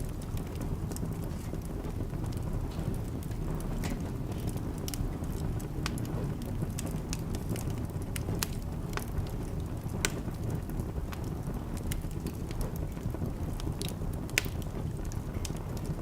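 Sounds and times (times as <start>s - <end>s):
burning logs crackling and popping: 0.0s - 16.0s
fire flames rumbling: 0.0s - 16.0s.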